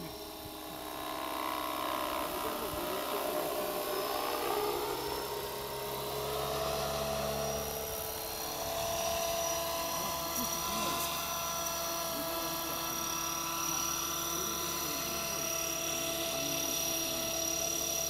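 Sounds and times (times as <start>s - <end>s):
model helicopter motor whine: 0.0s - 18.0s
rotor noise: 0.0s - 18.0s.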